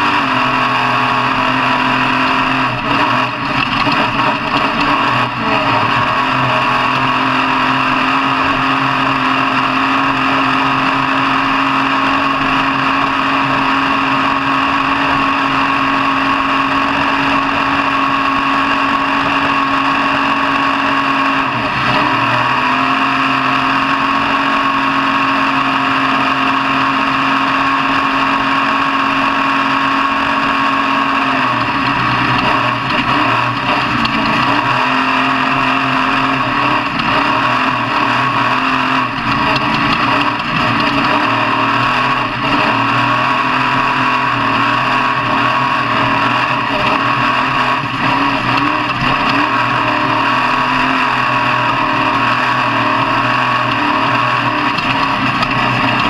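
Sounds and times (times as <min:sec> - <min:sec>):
truck engine revving high: 0:00.0 - 0:56.0.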